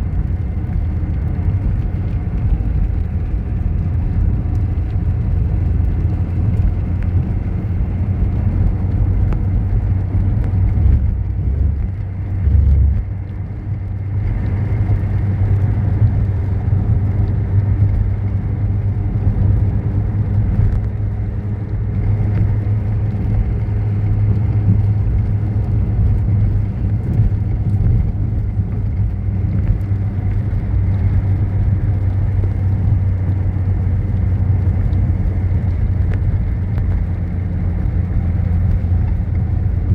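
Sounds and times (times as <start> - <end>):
vehicle engine and road drone: 0.0 - 39.9.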